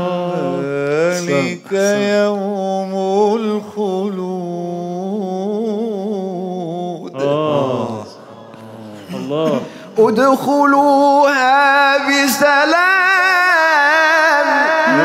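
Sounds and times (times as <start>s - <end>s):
man chanting melodically: 0.0s - 8.2s, 9.0s - 15.0s.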